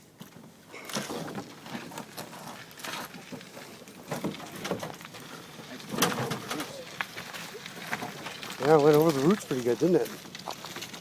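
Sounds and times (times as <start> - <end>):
boat cart rattling over rough ground: 0.0 - 11.0.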